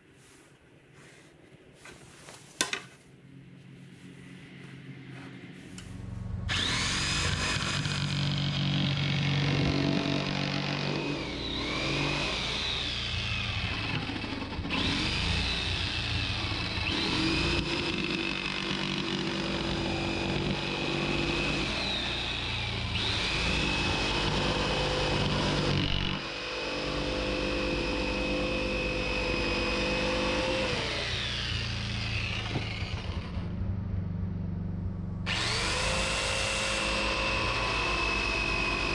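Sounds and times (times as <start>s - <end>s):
thickness planer whining: 2.6s - 33.8s, 35.2s - 38.9s.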